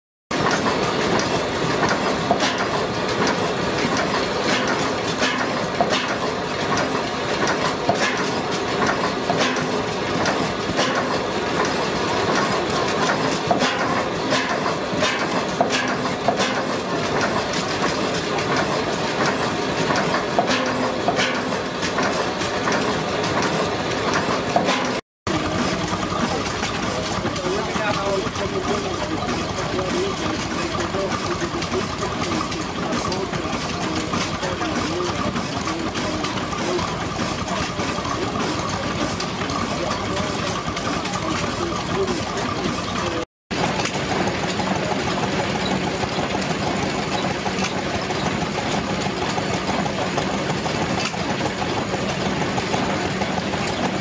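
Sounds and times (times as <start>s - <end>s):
sharp engine clicks: 0.3s - 54.0s
stationary engine clattering: 0.3s - 54.0s.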